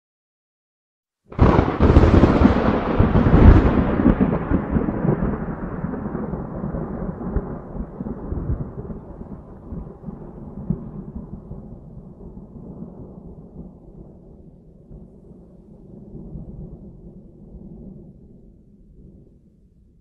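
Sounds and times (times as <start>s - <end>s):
thunder rumbling: 1.3s - 20.0s.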